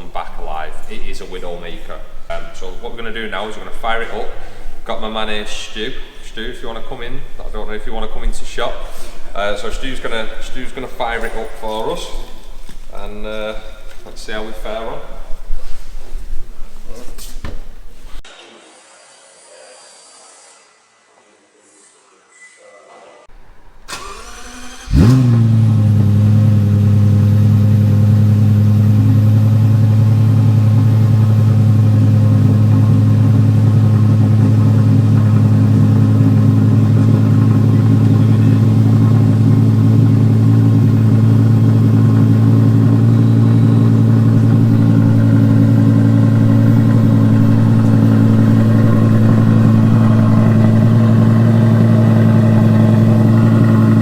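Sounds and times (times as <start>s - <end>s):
car engine starting and idling: 0.0s - 18.2s, 23.3s - 54.0s.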